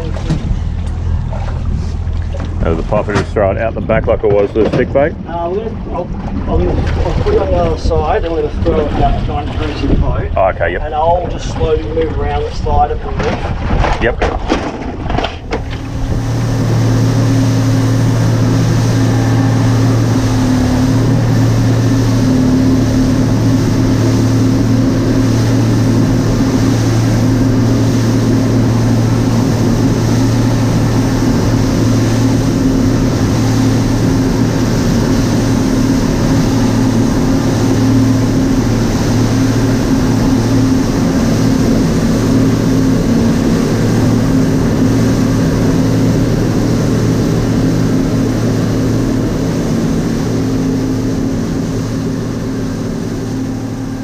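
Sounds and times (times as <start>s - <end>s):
outboard motor humming: 0.0s - 54.0s
water rushing along hull: 0.0s - 54.0s.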